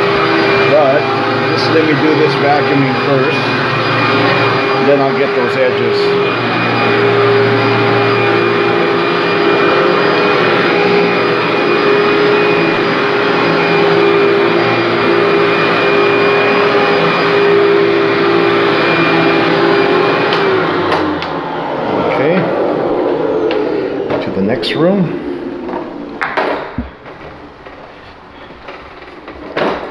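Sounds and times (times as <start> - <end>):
upright vacuum cleaner on carpet: 0.0 - 29.9.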